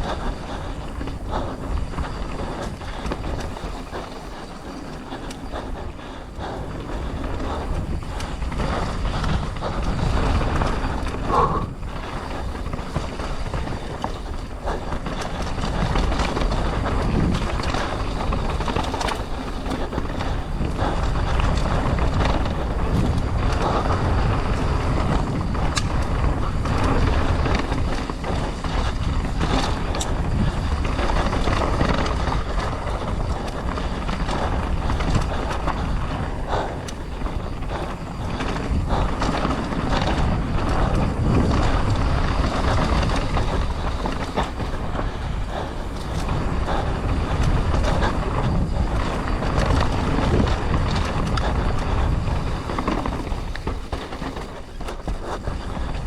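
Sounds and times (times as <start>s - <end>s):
bike knocks and rattles: 0.0s - 56.0s
tyres rumbling on dirt and rock: 0.0s - 56.0s
wind buffeting microphone: 0.0s - 56.0s.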